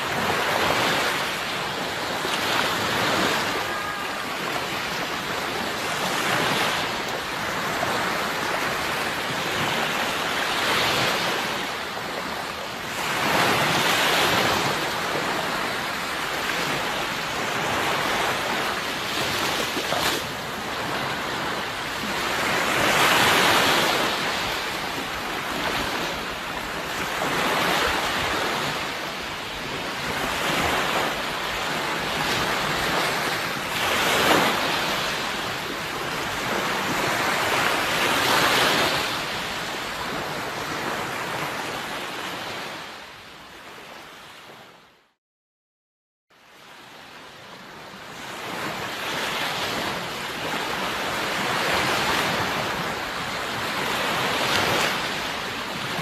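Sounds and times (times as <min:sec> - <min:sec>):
sea waves surging onto shore: 0:00.0 - 0:44.9, 0:46.4 - 0:56.0.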